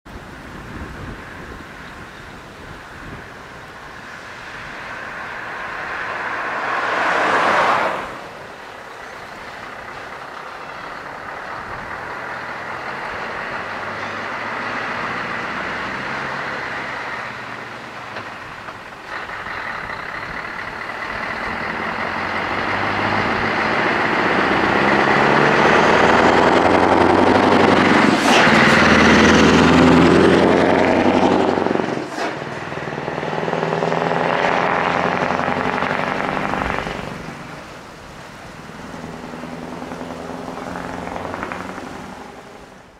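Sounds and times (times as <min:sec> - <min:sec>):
truck accelerating past: 0:02.9 - 0:42.9
car driving past: 0:03.8 - 0:18.6, 0:21.0 - 0:42.9.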